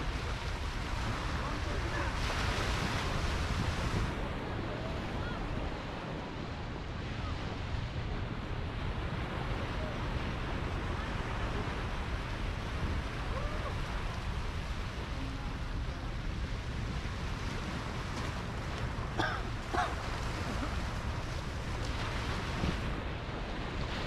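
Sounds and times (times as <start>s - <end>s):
waves washing up shore: 0.0s - 24.0s
wind on microphone: 0.0s - 24.0s.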